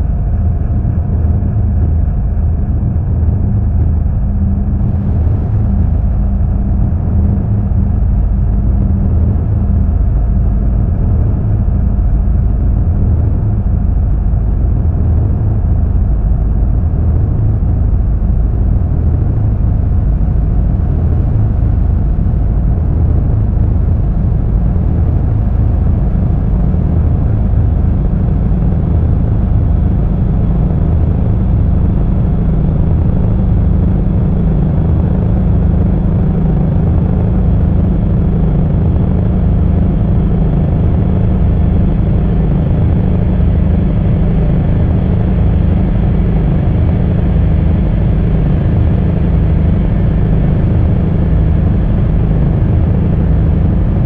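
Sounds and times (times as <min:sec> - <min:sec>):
dark ambient drone music: 0:00.0 - 0:54.0.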